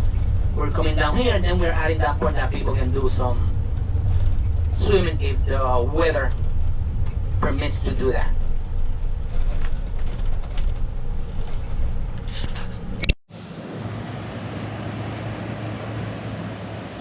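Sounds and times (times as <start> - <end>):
steady rushing noise: 0.0 - 17.0
vehicle cabin rumble: 0.0 - 17.0.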